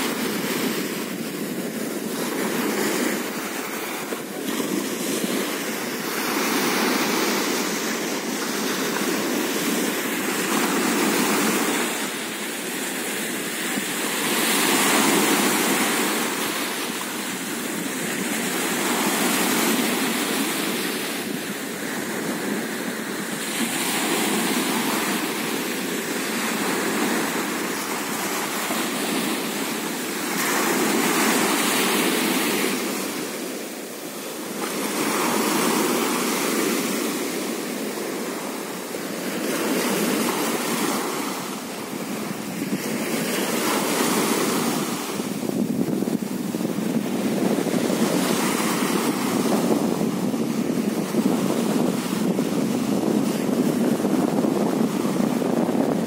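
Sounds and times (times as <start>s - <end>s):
waves breaking on sandy beach: 0.0s - 56.0s.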